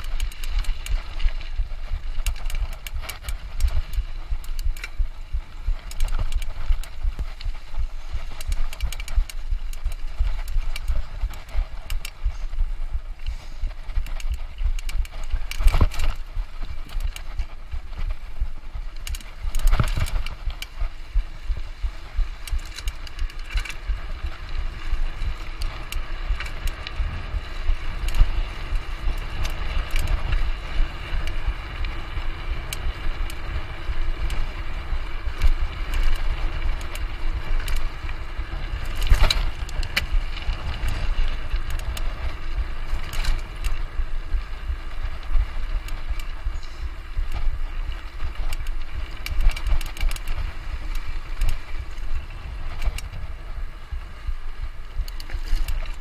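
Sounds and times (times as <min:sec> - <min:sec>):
bike rumbling and rattling: 0:00.0 - 0:56.0.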